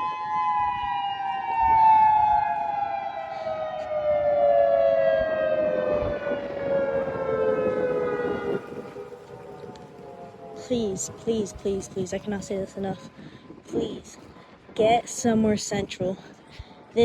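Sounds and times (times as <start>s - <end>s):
civil defense siren wailing: 0.0s - 14.8s.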